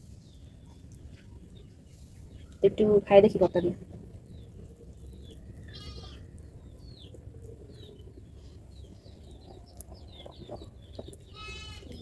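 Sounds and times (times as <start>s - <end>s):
low background noise: 0.0s - 12.0s
small birds chirping: 0.1s - 12.0s.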